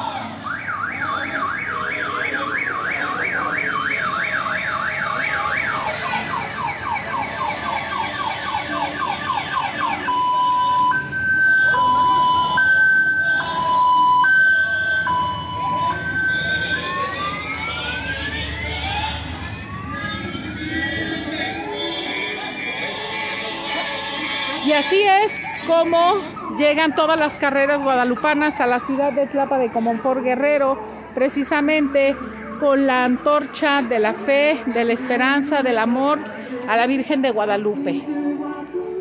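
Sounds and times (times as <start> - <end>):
electronic vehicle siren: 0.0 - 33.6.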